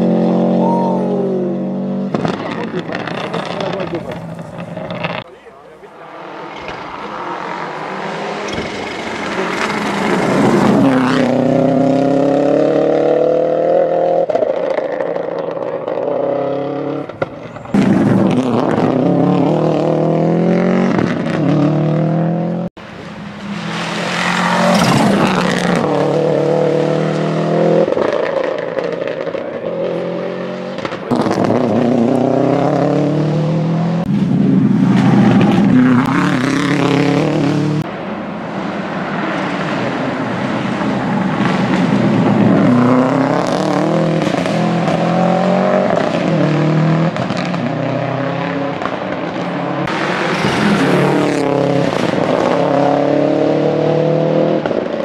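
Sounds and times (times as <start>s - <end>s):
rally car engine passing: 0.0s - 55.0s.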